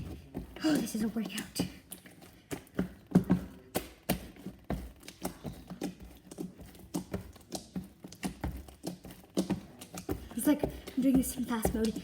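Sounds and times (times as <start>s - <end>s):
slime kneaded with wet pops: 0.0s - 12.0s.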